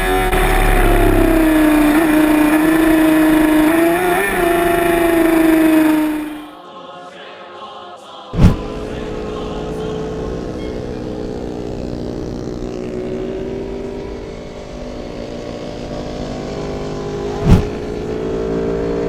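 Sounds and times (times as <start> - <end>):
motorcycle engine revving high: 0.0 - 6.5, 8.4 - 19.0.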